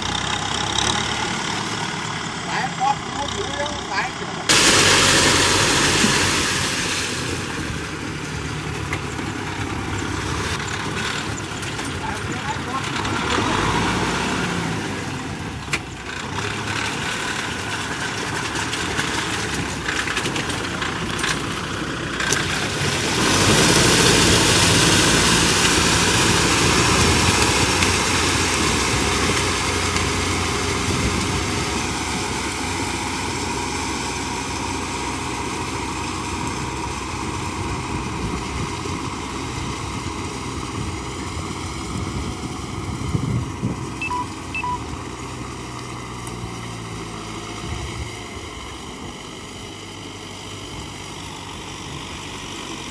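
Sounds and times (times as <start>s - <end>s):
tiller blades churning mud and water: 0.0s - 52.9s
tractor diesel engine under load: 0.0s - 52.9s.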